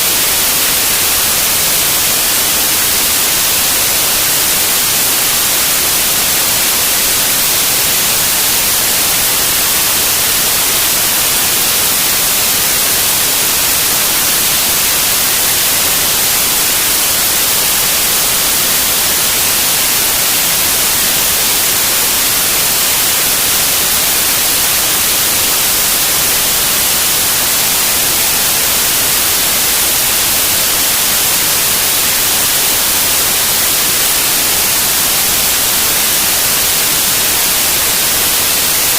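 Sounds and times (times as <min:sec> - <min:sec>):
radio static hiss: 0:00.0 - 0:38.9.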